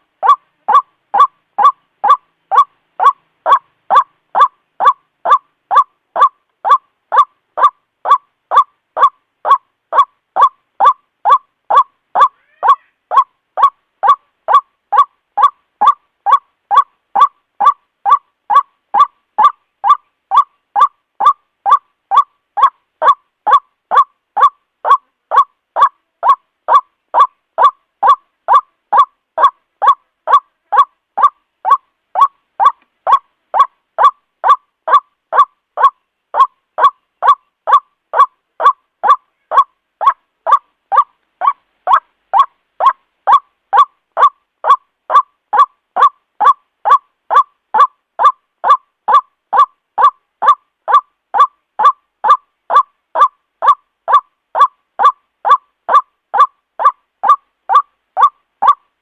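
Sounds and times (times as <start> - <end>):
bird calling ruak: 0.2 - 58.8.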